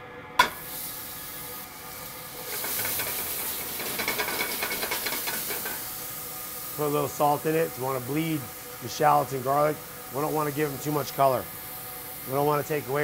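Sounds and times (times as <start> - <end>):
sizzling and crackling oil: 0.4 - 13.0
food hissing into hot oil: 0.5 - 13.0.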